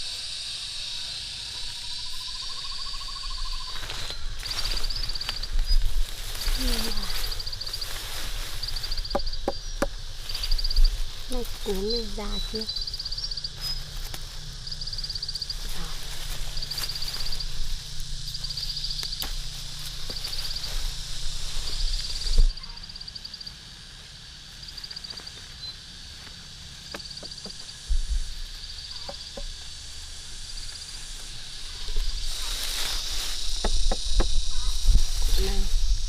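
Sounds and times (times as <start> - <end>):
insect chirping trills: 0.0 - 36.0.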